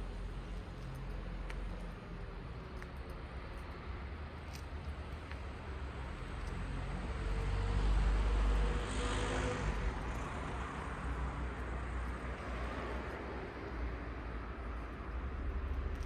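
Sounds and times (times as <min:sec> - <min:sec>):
vehicle passing on road: 0:00.0 - 0:16.0.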